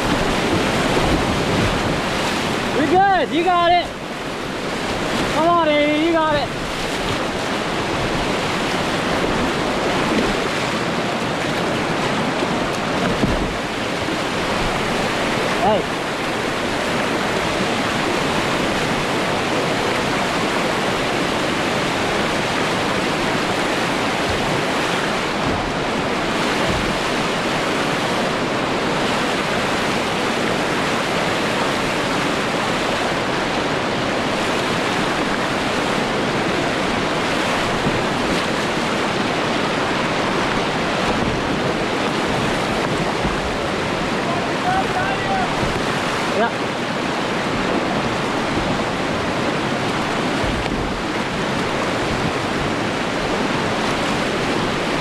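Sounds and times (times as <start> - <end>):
whitewater rapids rushing: 0.0 - 55.0.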